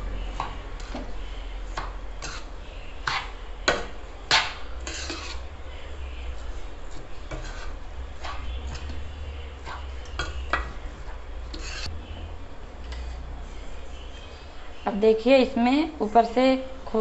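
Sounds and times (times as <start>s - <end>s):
low steady hum: 0.0s - 17.0s
spoon stirring sticky noodles: 0.0s - 17.0s.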